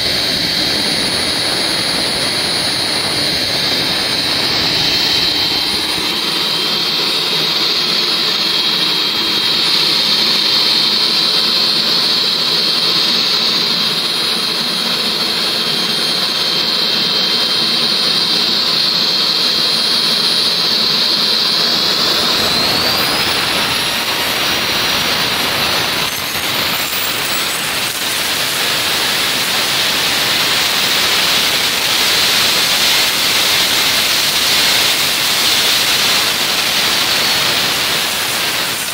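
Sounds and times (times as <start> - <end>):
jet engine turbine whine: 0.0 - 38.9.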